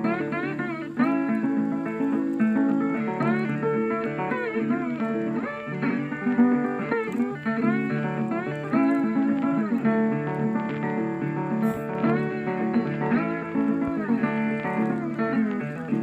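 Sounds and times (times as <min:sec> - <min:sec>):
guitar plucking bending notes: 0:00.0 - 0:16.0.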